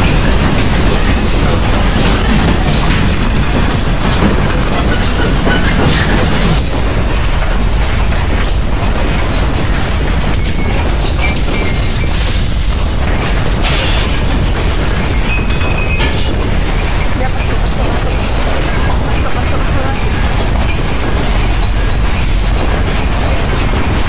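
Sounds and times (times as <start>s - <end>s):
earthquake rumble: 0.0s - 24.0s
rattling: 0.0s - 24.0s.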